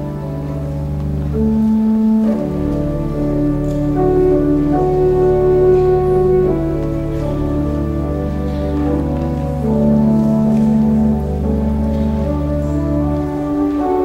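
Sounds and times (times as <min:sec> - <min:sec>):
pipe organ chords: 0:00.0 - 0:14.0.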